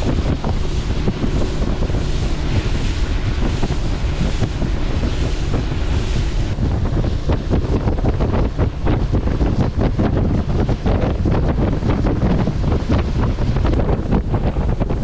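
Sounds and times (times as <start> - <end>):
outboard motor running fast: 0.0 - 15.0
rushing water: 0.0 - 15.0
wind buffeting microphone: 0.0 - 15.0.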